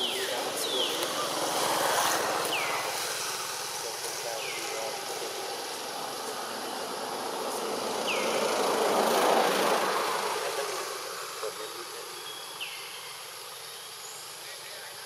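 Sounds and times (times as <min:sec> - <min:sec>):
vehicle passing by: 0:00.0 - 0:13.6
high insect drone: 0:00.0 - 0:15.0.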